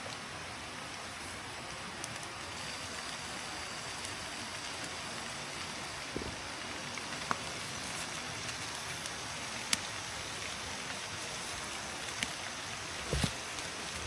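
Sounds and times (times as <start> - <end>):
water hissing: 2.6 - 14.0.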